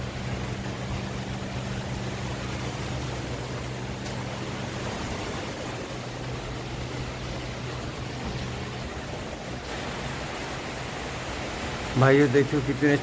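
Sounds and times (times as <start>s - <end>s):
low steady hum: 0.0s - 13.0s
rain on a roof: 0.0s - 13.0s.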